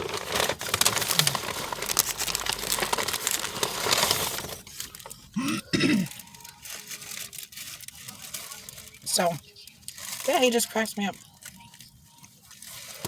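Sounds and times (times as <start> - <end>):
paper wrappers rustling: 0.0 - 13.0.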